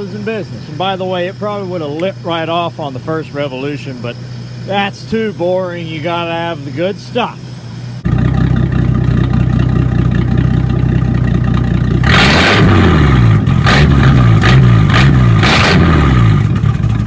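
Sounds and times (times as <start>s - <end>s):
truck engine idling: 0.0s - 17.0s
truck engine revving: 0.0s - 17.0s.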